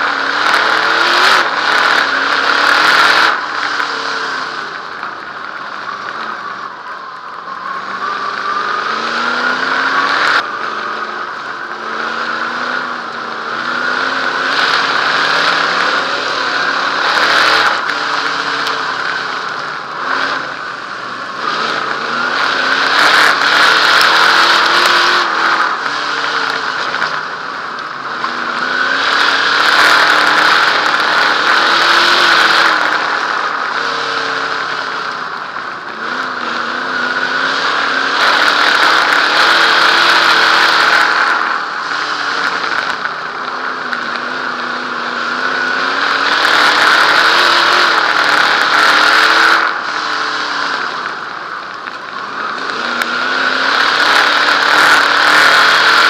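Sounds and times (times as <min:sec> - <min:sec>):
race car engine at speed: 0:00.0 - 0:56.0.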